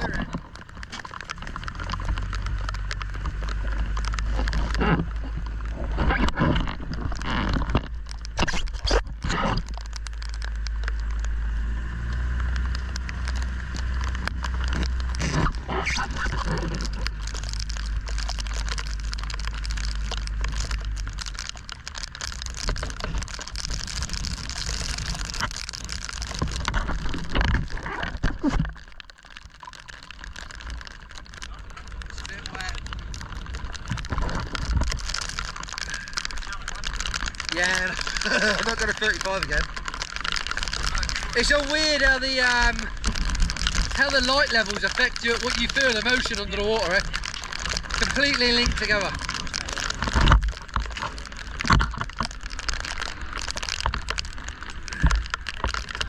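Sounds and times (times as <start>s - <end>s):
gear knocking and clattering: 0.0s - 56.0s
wind and rain: 0.0s - 56.0s.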